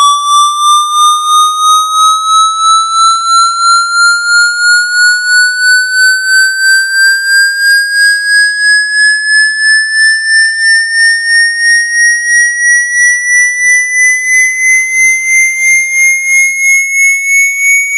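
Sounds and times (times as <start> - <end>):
shrill electronic pulsing tone: 0.0 - 15.2.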